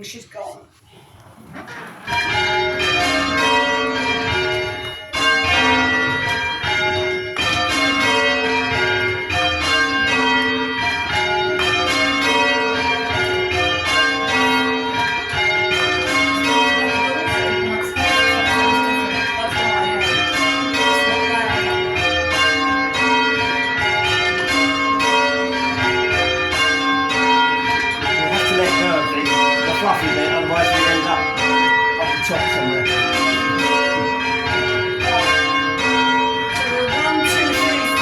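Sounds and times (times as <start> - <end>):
church bells ringing: 2.0 - 38.0.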